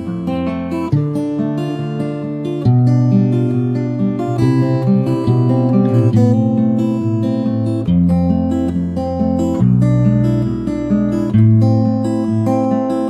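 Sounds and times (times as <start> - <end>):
strummed guitar chords: 0.0 - 13.0.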